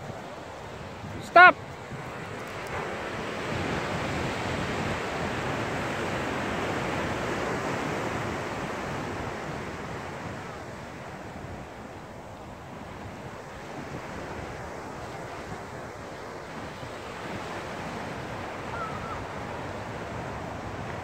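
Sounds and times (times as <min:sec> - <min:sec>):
ocean surf washing onto beach: 0:00.0 - 0:21.0.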